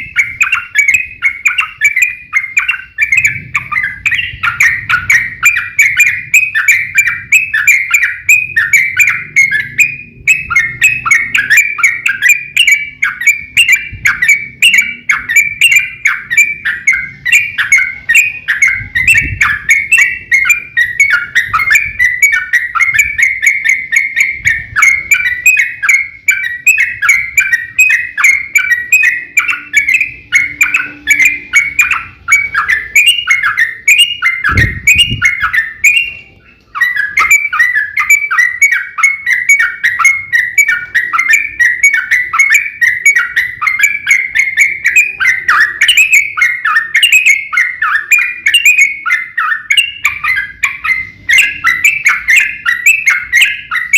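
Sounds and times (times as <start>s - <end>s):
bulbul rapid chirping song: 0.0s - 53.9s.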